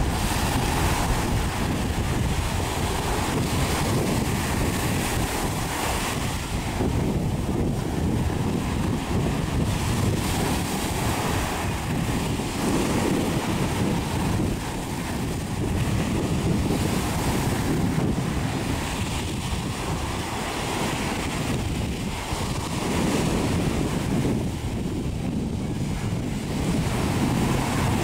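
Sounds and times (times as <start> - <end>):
surf washing up sand: 0.0 - 28.0
wind buffeting microphone: 0.0 - 28.0.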